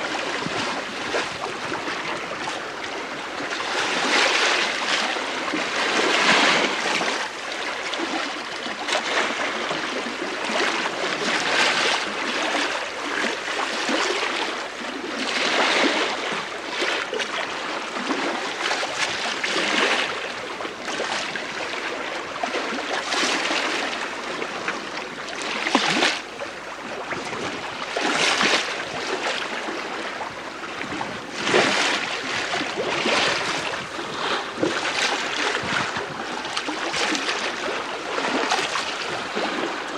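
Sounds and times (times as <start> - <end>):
water washing along hull: 0.0 - 39.9.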